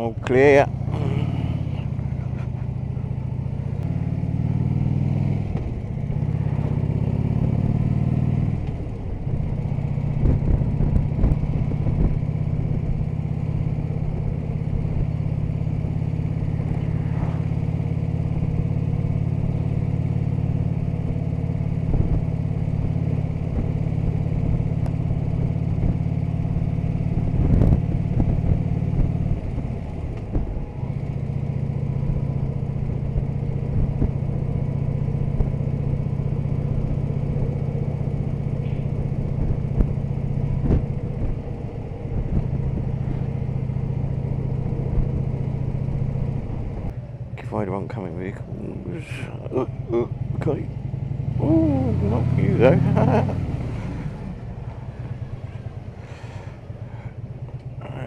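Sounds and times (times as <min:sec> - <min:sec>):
motorcycle engine pulling away: 0:00.6 - 0:47.0, 0:48.6 - 0:58.0.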